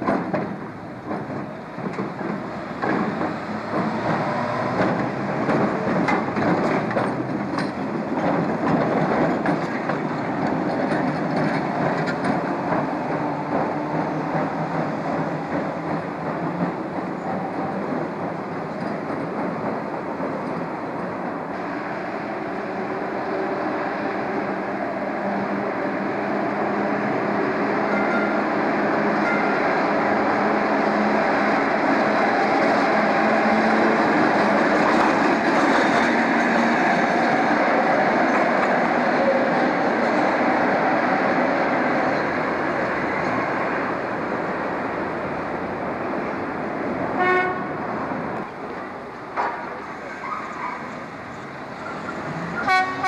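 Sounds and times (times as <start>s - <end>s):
streetcar rumbling on rails: 0.0s - 53.0s.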